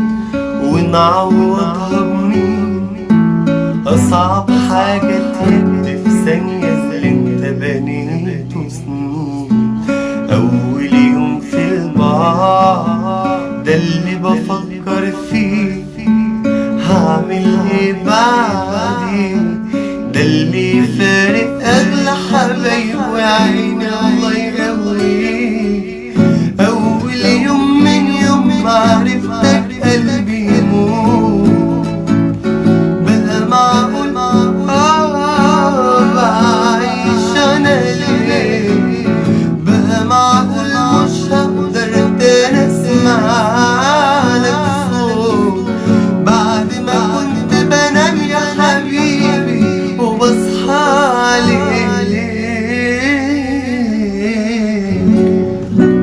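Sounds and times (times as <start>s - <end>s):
acoustic guitar: 0.0s - 56.0s
man singing: 0.0s - 56.0s.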